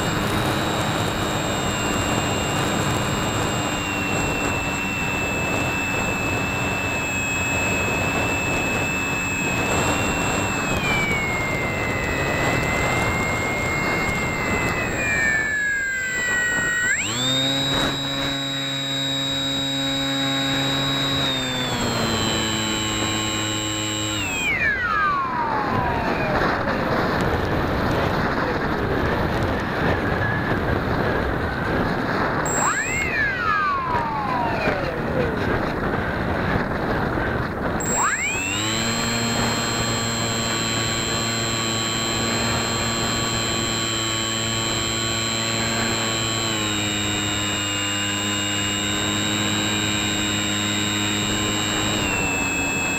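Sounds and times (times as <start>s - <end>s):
electric motor and propeller whining: 0.0s - 52.9s.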